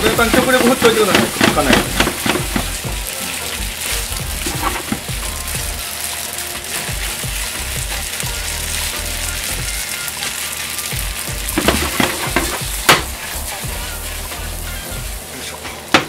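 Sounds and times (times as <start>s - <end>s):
spaghetti sizzling in frying pan: 0.0s - 16.0s.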